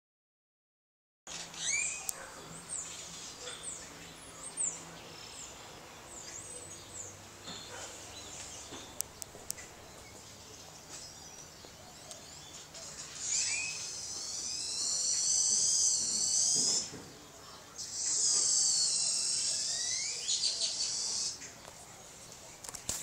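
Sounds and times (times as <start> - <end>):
birds chirping and calling: 1.3 - 22.9.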